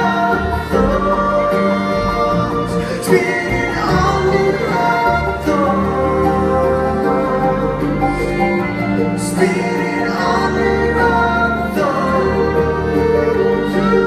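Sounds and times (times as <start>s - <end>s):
acoustic string band music: 0.0s - 14.0s
person singing: 0.0s - 14.0s.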